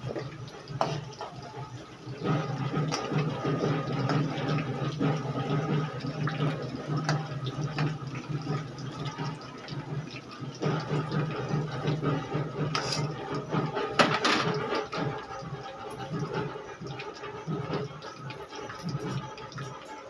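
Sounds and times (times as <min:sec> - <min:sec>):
hot oil sizzling and bubbling: 0:00.0 - 0:20.0.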